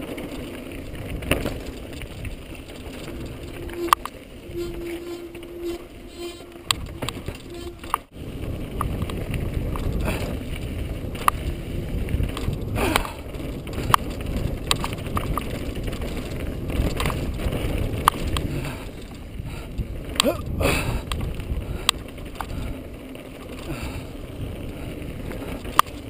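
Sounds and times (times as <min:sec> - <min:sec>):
bike clicks and rattles: 0:00.0 - 0:26.0
bike tyre rumble: 0:00.0 - 0:26.0
wind: 0:00.0 - 0:26.0.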